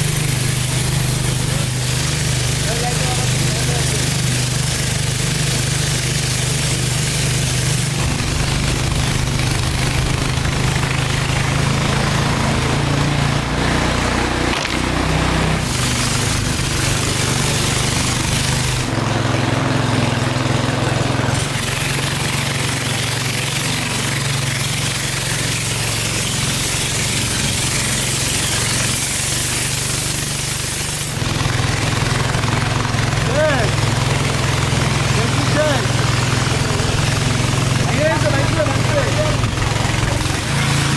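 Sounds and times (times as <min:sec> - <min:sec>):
water and wind hiss: 0:00.0 - 0:12.6, 0:13.9 - 0:19.0, 0:21.3 - 0:40.9
boat engine running: 0:00.0 - 0:40.9.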